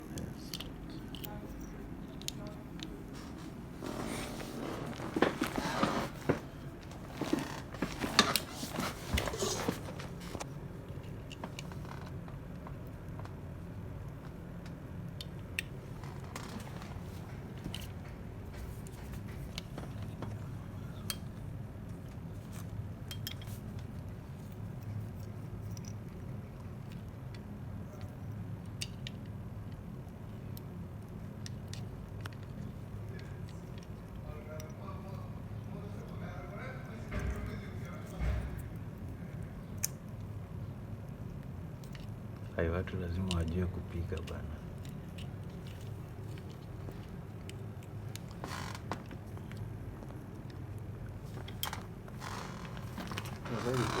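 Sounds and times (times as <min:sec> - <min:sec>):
rustling and handling noises: 0:00.0 - 0:35.7, 0:37.1 - 0:54.0
low steady hum: 0:00.0 - 0:54.0.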